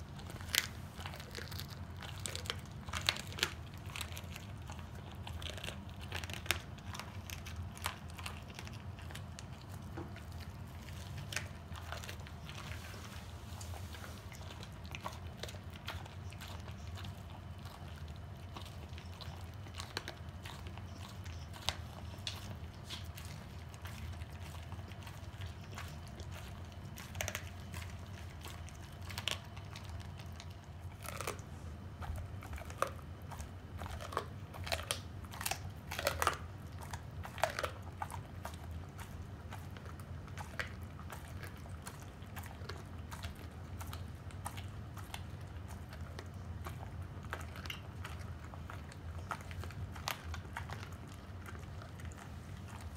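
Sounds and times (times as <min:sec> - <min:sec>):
dog crunching bones: 0:00.0 - 0:52.9.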